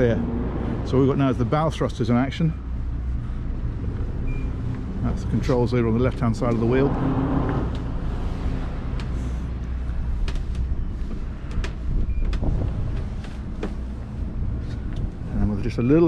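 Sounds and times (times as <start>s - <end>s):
yacht engines humming: 0.0s - 16.0s.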